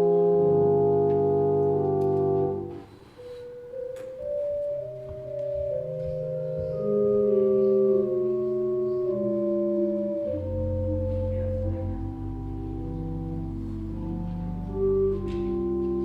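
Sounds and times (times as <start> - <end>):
deep organ bass note: 0.0 - 2.8, 4.3 - 16.0
organ playing held chords: 0.0 - 16.0.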